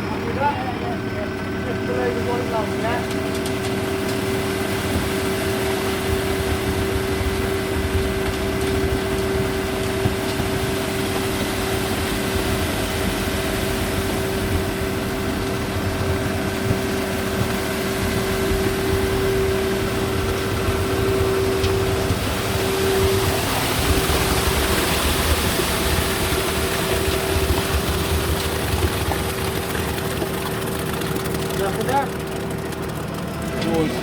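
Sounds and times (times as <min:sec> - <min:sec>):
concrete mixer engine running: 0:00.0 - 0:34.0.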